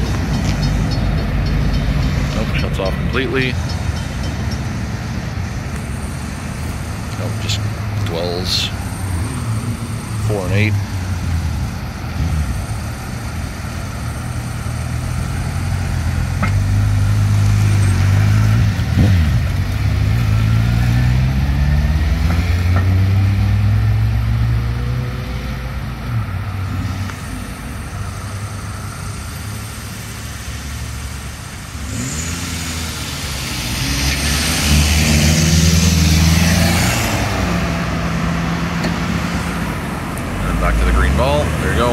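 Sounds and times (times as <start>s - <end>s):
car engines accelerating: 0.0s - 41.9s.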